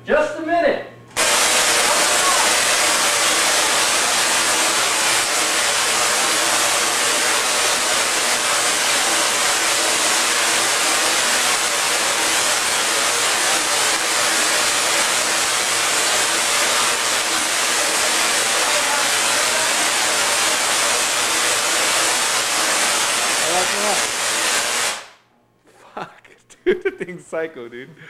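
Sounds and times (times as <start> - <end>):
tesla coil hissing buzz: 1.2 - 25.2.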